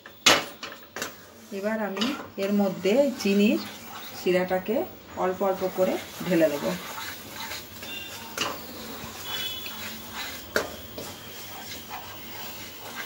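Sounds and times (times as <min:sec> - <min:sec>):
wooden spatula scraping a pan: 0:00.1 - 0:13.0.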